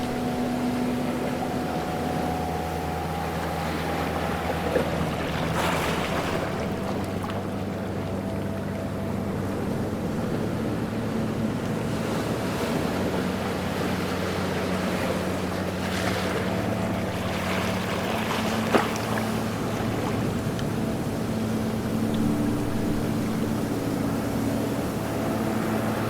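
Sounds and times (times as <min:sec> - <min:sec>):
low hum: 0:00.0 - 0:26.0
ocean waves washing: 0:00.0 - 0:26.0.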